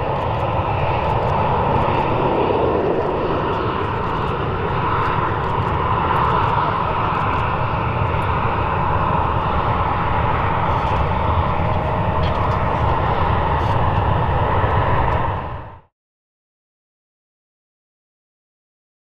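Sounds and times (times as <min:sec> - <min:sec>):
jet engines humming: 0:00.0 - 0:15.9.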